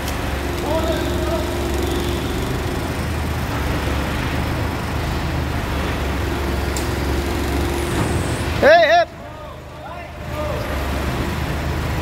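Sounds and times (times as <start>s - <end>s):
steady high hum: 0.0s - 10.2s
forklift engine rumbling: 0.0s - 12.0s.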